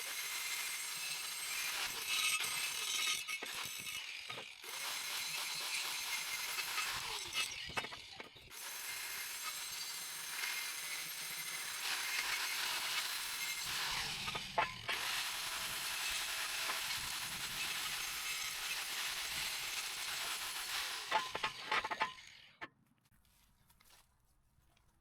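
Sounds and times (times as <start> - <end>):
angle grinder grinding steel: 0.5 - 22.7.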